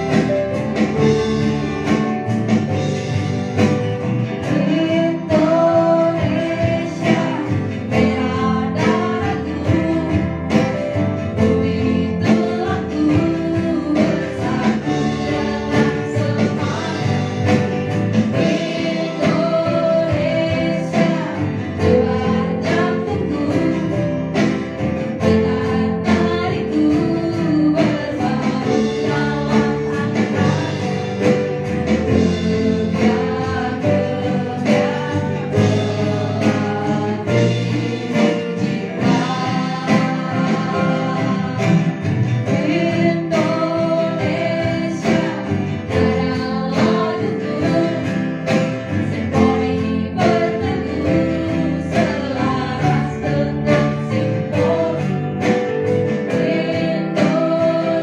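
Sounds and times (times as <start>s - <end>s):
acoustic guitar: 0.0s - 58.0s
electric bass: 0.0s - 58.0s
keyboard: 0.0s - 58.0s
steady drum beat: 0.0s - 58.0s
woman singing lead: 4.3s - 58.0s.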